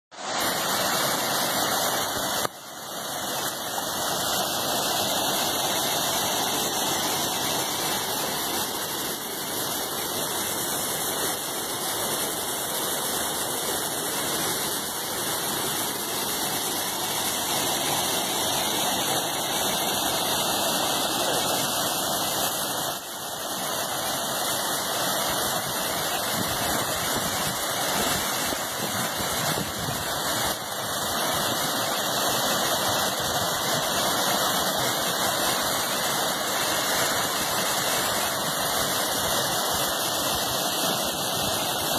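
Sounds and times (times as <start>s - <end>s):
water rushing over spillway: 0.1s - 41.9s.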